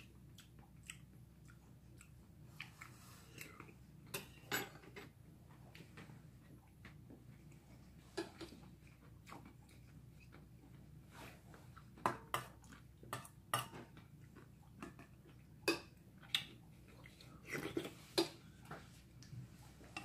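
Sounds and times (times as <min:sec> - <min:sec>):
quiet eating sounds: 0:00.0 - 0:20.0.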